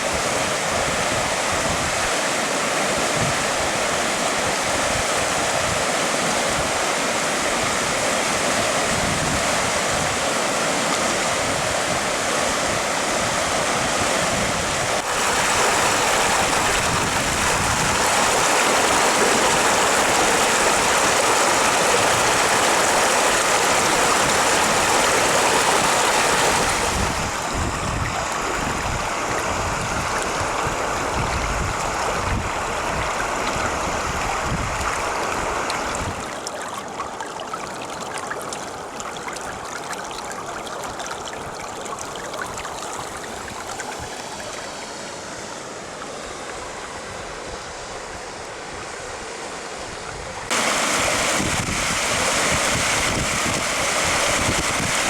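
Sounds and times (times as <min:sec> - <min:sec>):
floodwater rushing: 0:00.0 - 0:47.5, 0:50.5 - 0:55.0.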